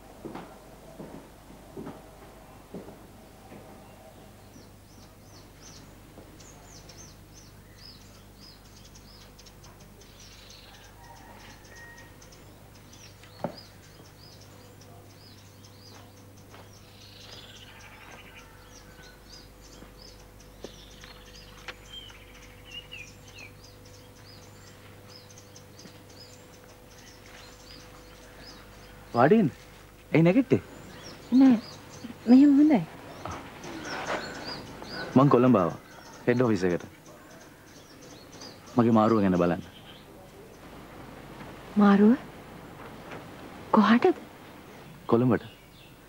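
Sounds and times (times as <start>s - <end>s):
birds chirping: 0.0s - 46.0s
faint hum: 0.0s - 46.0s.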